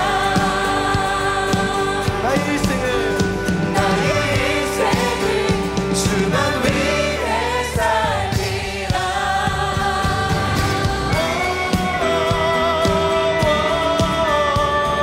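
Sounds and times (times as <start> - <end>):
several singers singing together: 0.0 - 2.7, 3.6 - 14.7
acoustic guitar: 0.0 - 15.0
drums keeping a steady beat: 0.0 - 15.0.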